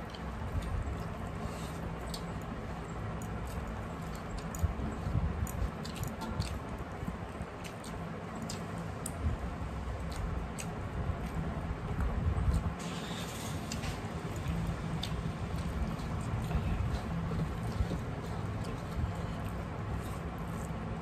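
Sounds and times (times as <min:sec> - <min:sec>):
chewing and wet mouth sounds: 0:00.0 - 0:21.0.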